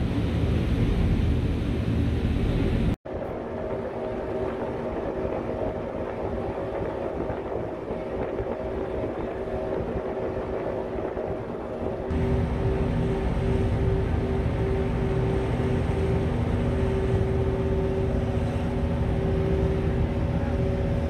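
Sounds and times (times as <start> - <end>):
water noise: 0.0 - 21.0
wind: 0.0 - 21.0
boat engine running: 0.1 - 21.0.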